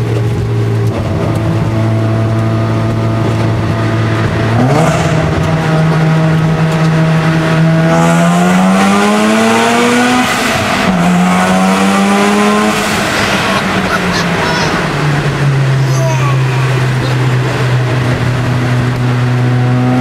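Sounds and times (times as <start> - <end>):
rotary engine revving: 0.9 - 20.0.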